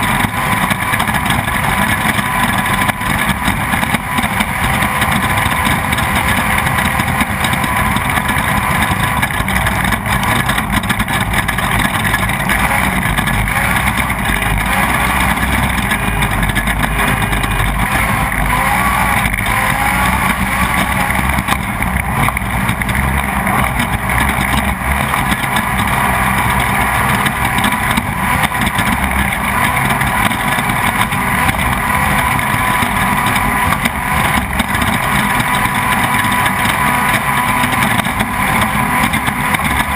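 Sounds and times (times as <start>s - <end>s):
race vehicle engine running hard: 0.0s - 39.9s
ride noise: 0.0s - 39.9s.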